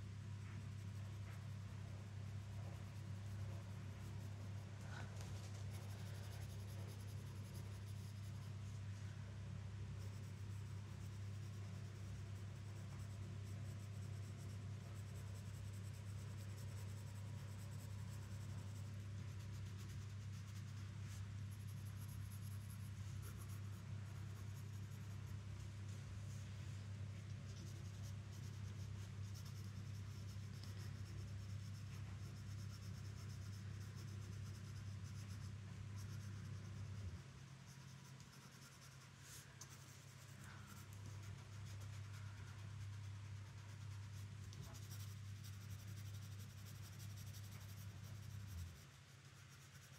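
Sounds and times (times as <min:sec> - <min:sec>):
pencil scratching on paper: 0:00.2 - 0:49.9.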